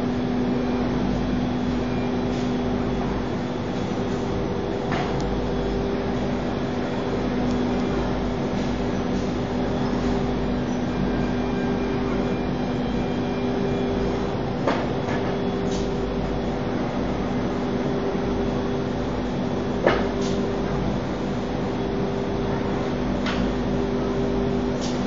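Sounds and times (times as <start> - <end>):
cnc router spindle humming: 0.0 - 24.8.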